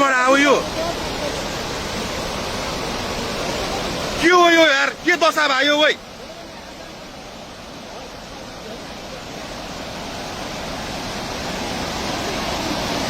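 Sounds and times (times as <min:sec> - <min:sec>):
flood river rushing: 0:00.0 - 0:13.0.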